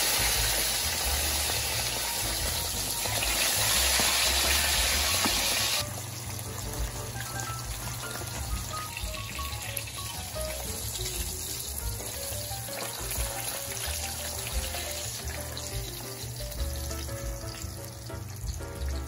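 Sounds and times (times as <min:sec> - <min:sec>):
background music: 0:00.0 - 0:19.0
fish sizzling in oil: 0:00.0 - 0:19.0.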